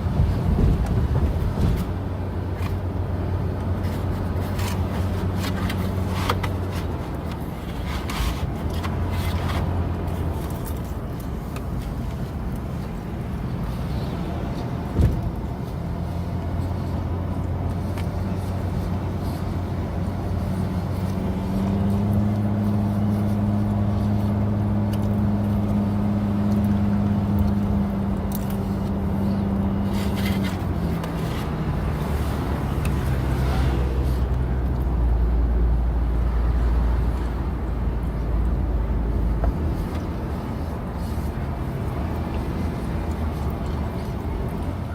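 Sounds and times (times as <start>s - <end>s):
car engine hum: 0.0s - 44.9s
road noise: 0.0s - 44.9s.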